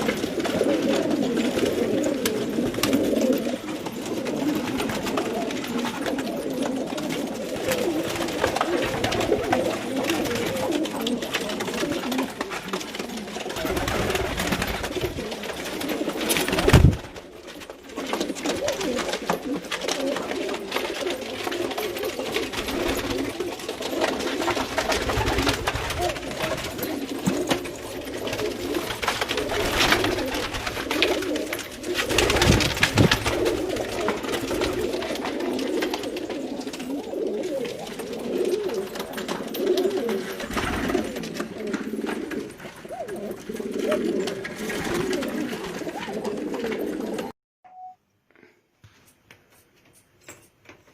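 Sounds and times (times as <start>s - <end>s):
pigeons cooing: 0.0s - 47.4s.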